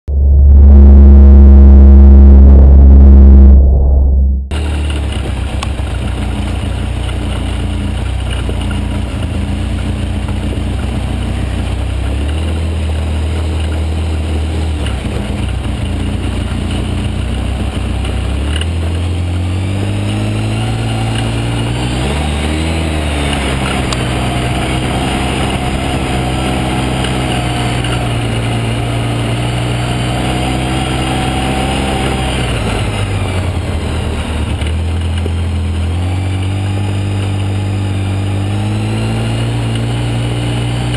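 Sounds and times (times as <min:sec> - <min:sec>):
quad engine running: 0:00.0 - 0:03.8, 0:04.5 - 0:40.9.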